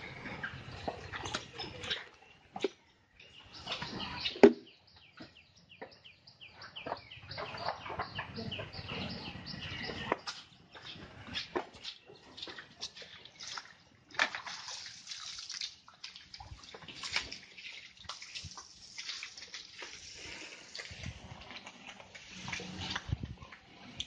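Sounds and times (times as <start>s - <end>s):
water sloshing on concrete floor: 0.1s - 5.4s, 9.6s - 24.0s.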